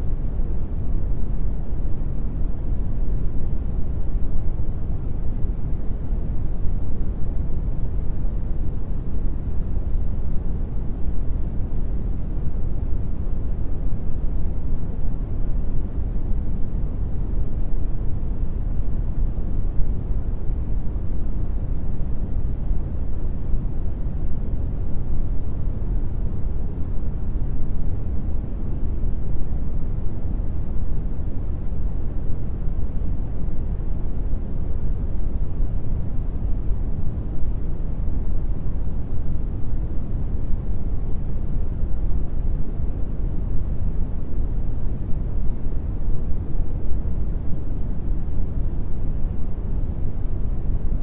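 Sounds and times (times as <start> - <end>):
deep rumbling brown noise: 0.0 - 51.0.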